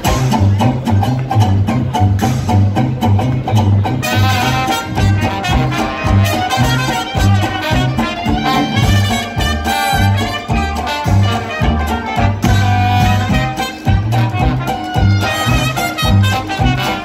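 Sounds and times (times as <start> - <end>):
jazz band playing: 0.0 - 17.0
pulsing bass line: 0.0 - 17.0.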